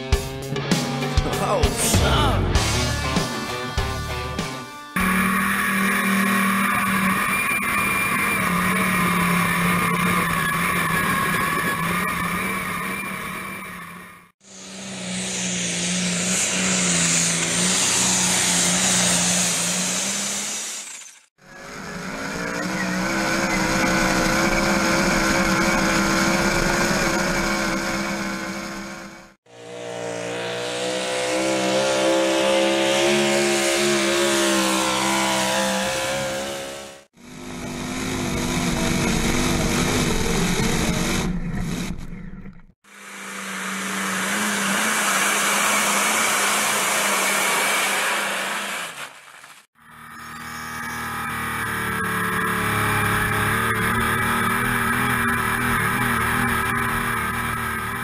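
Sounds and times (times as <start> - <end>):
engines running hard under load: 0.0 - 58.0.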